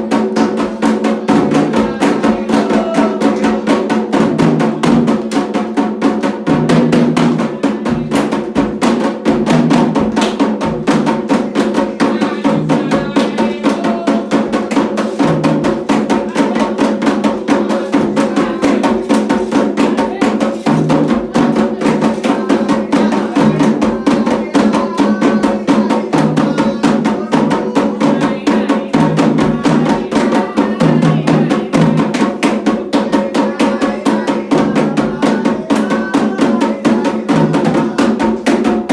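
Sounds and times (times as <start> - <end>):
voices singing faintly: 0.0 - 5.9, 6.7 - 38.9
hand drums playing fast rhythm: 0.0 - 38.9.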